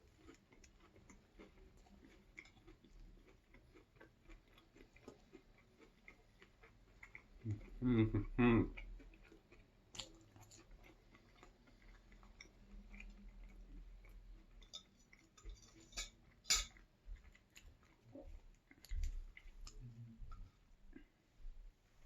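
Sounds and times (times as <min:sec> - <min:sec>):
person chewing food: 0:00.0 - 0:21.4.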